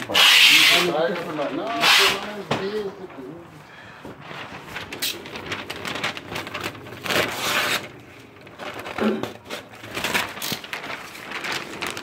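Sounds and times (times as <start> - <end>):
plastic sheeting crinkling: 0.0 - 12.0.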